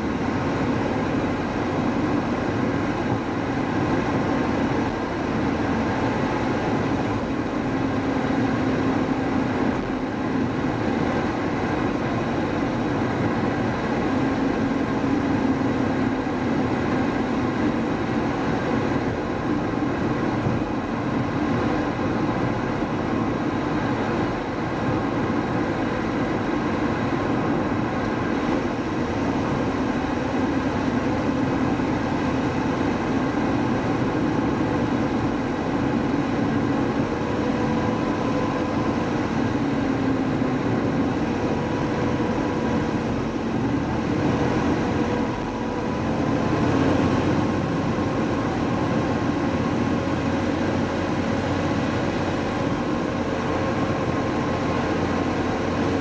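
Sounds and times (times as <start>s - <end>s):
car engine: 0.0s - 56.0s.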